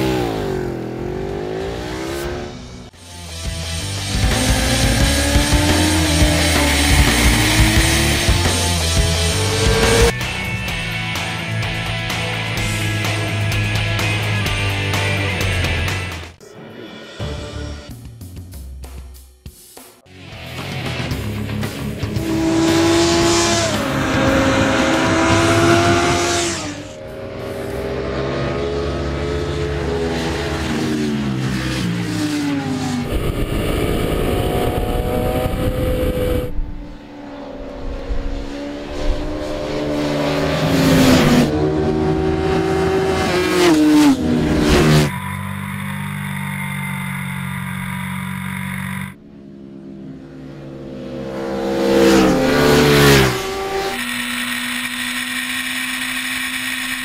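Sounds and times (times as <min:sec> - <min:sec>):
motorcycle engines accelerating: 0:00.0 - 0:16.2, 0:20.6 - 0:57.0.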